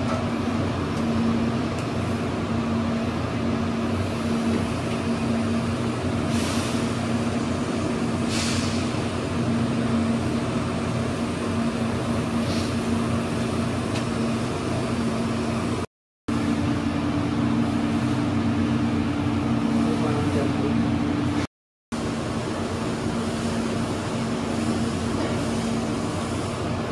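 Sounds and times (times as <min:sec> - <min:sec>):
machine hum with fan noise: 0:00.0 - 0:26.9.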